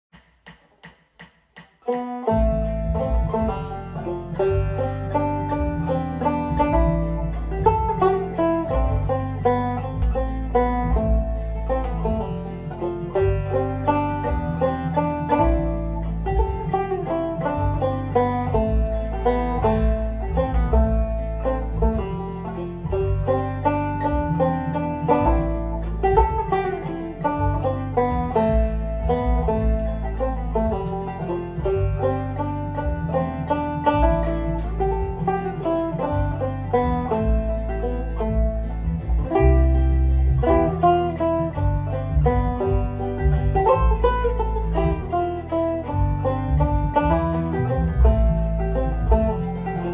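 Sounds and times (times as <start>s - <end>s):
banjo plucked notes: 1.8s - 49.9s
backing track low bass: 2.3s - 49.9s.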